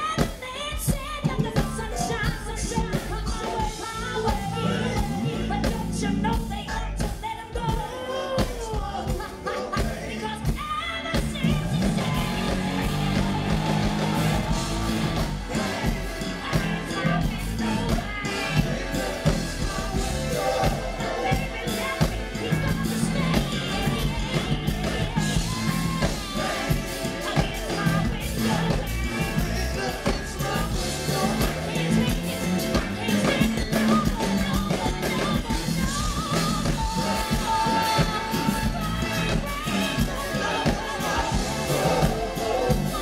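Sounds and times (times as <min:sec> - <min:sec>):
lead singing: 0:00.0 - 0:43.0
live funk band playing: 0:00.0 - 0:43.0.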